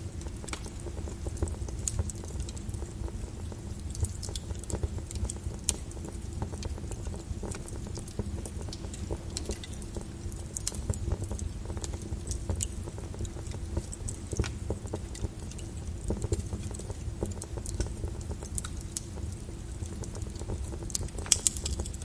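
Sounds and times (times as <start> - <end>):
wood fire crackling: 0.0 - 22.0
rain falling: 0.1 - 22.0.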